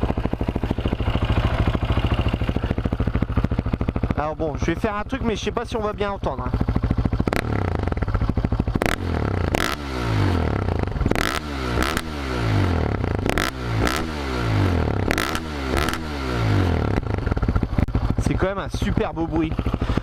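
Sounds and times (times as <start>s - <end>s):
quad engine idling and revving: 0.0s - 20.0s.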